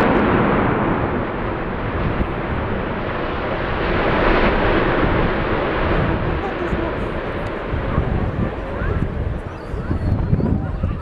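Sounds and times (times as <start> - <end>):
building collapsing rumble: 0.0 - 11.0.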